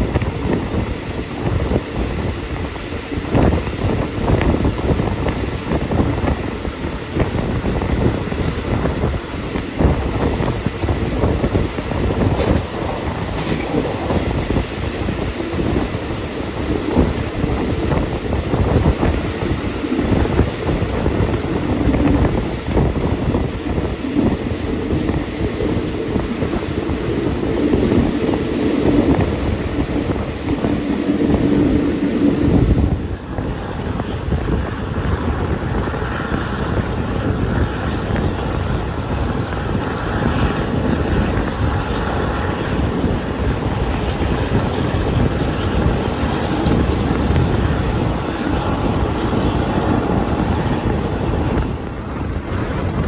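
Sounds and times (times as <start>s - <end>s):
train running noise: 0.0s - 53.0s
wind buffeting microphone: 0.0s - 53.0s.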